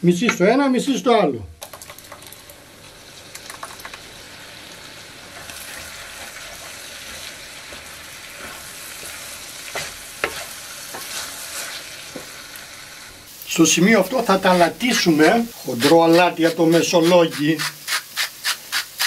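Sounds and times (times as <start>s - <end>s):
food sizzling in a frying pan: 1.6s - 19.0s.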